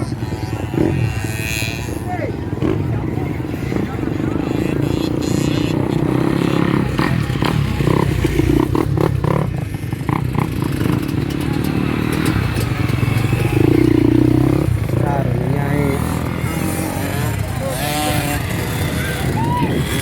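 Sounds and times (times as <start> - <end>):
motorcycle engines droning: 0.0 - 20.0.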